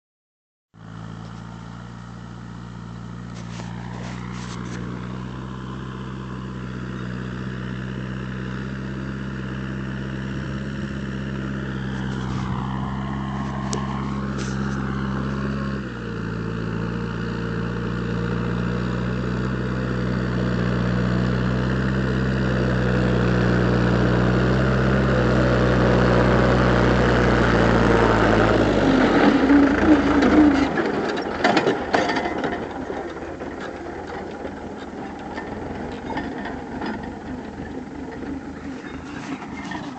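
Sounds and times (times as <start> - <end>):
tractor diesel engine running: 0.8 - 39.9.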